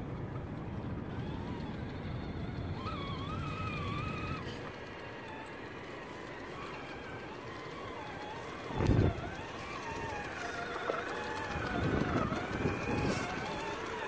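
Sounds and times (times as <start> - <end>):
electric motor whining: 0.4 - 14.0.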